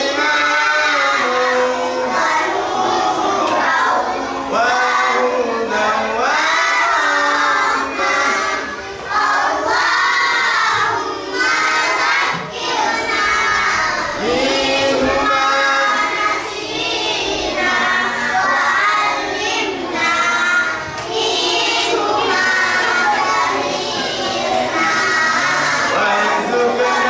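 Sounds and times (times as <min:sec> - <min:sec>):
children chanting in unison: 0:00.0 - 0:27.0.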